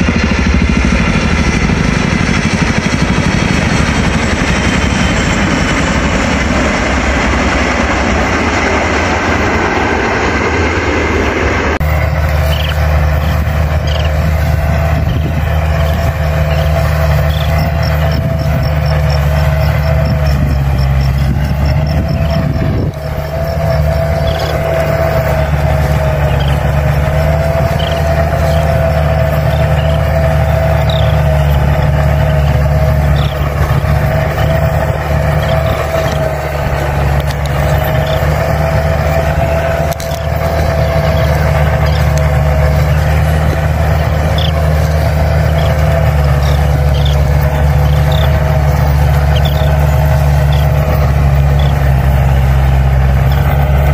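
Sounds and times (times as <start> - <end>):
mid-pitched whine: 0.0 - 53.9
tractor engine under load: 0.0 - 53.9.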